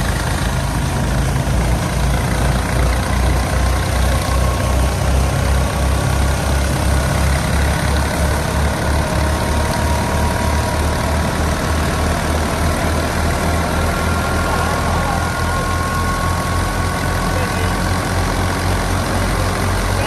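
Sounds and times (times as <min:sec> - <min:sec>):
thresher high whine: 0:00.0 - 0:20.0
tractor diesel engine running: 0:00.0 - 0:20.0.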